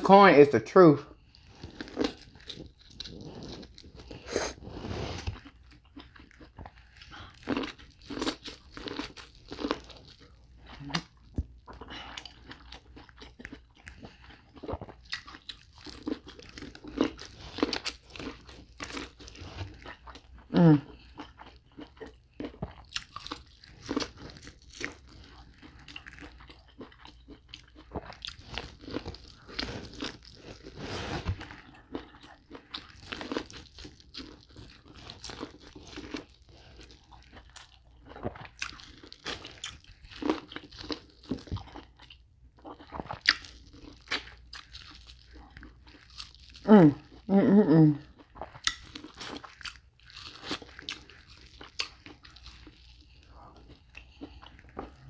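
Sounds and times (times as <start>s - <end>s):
chewing corn on the cob: 1.2s - 55.0s.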